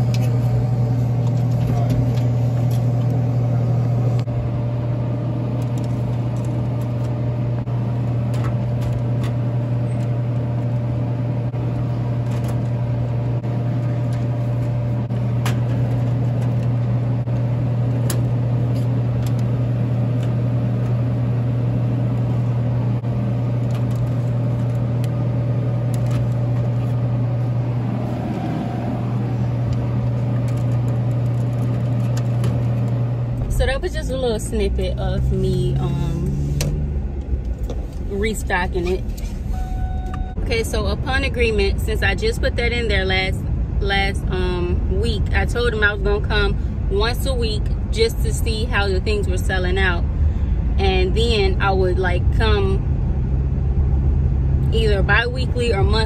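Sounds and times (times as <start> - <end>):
vending machine cooling hum: 0.0 - 56.0.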